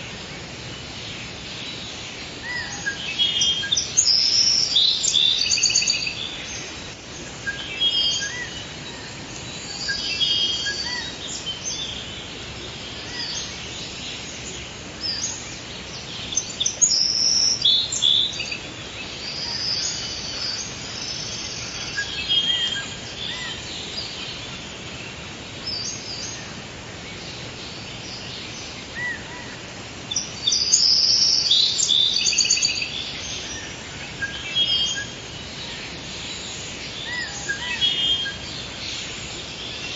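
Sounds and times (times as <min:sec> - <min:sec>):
birds chirping and trilling: 0:00.0 - 0:39.9
steady background hiss: 0:00.0 - 0:39.9.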